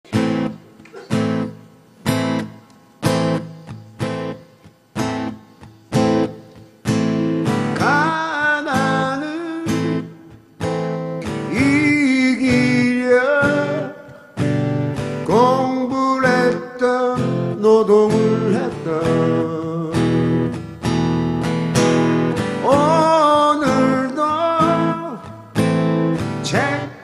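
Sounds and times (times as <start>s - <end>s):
guitar strumming chords: 0.1s - 27.0s.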